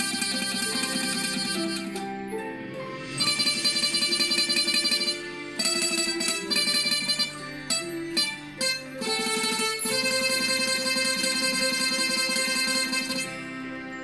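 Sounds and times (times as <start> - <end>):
zither melody: 0.0 - 14.0.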